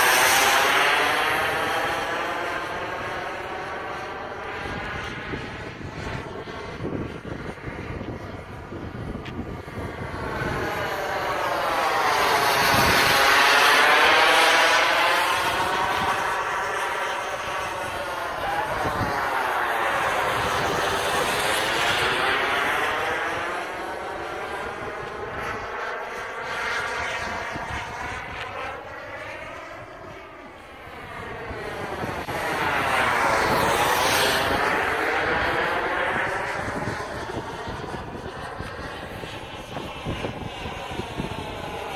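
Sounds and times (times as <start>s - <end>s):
jet flying past overhead: 0.0s - 41.9s.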